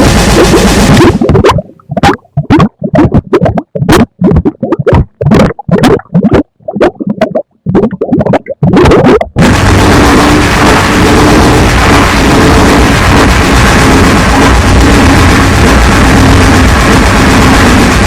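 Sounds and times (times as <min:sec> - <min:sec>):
continuous wall of noise: 0:00.0 - 0:18.0
stuttering distorted noise bursts: 0:00.0 - 0:18.0.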